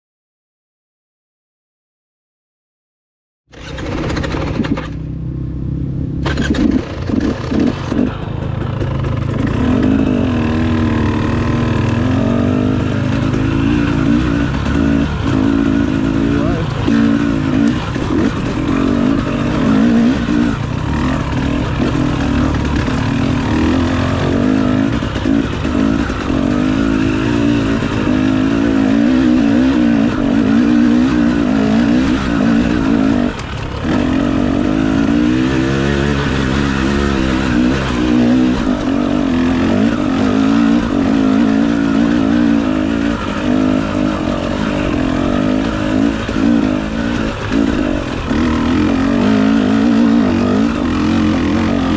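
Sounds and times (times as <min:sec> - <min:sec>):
dirt bike engine revving: 0:03.5 - 0:51.9.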